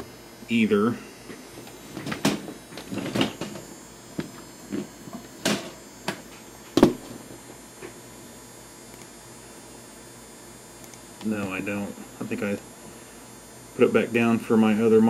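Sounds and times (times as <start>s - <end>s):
high-pitched monitor whine: 0.0s - 15.0s.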